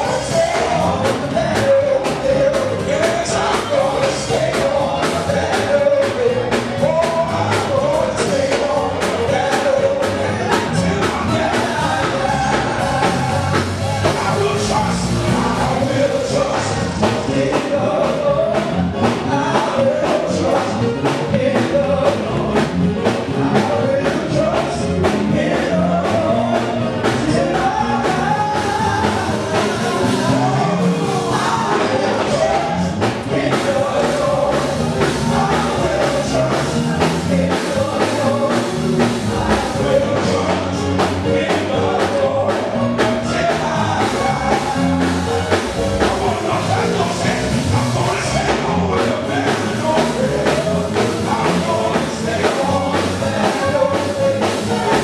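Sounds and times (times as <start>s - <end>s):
band music: 0.0s - 55.0s
man singing gospel: 0.0s - 55.0s
steady drum beat: 0.0s - 55.0s.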